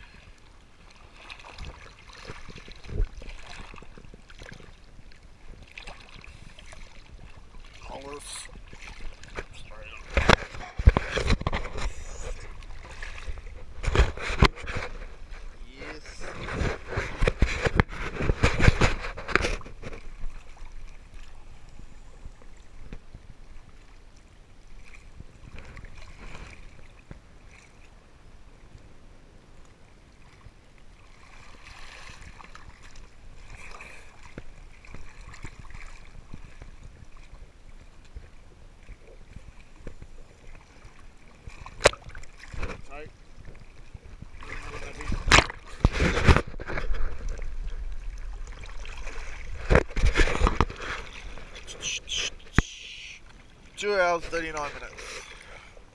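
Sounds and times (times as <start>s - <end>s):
seawater sloshing and splashing: 0.0s - 28.6s, 29.9s - 55.9s.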